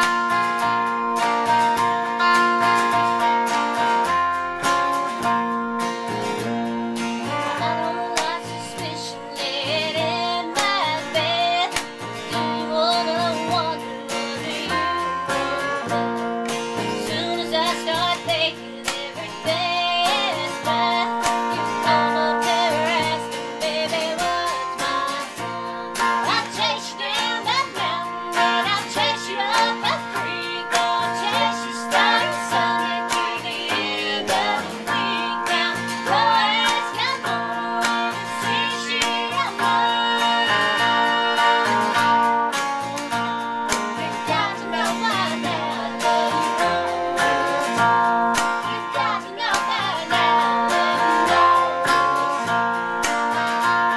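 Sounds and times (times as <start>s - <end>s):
acoustic guitar: 0.0s - 53.9s
electric guitar through amp: 0.0s - 53.9s
woman singing country song: 0.0s - 53.9s.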